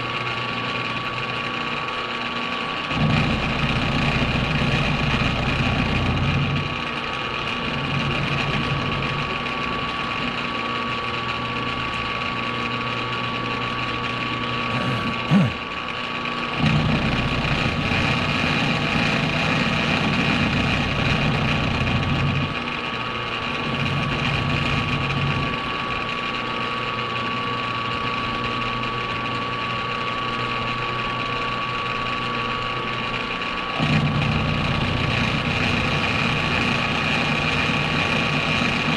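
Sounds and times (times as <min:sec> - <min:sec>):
machine tool motor whine: 0:00.0 - 0:38.9.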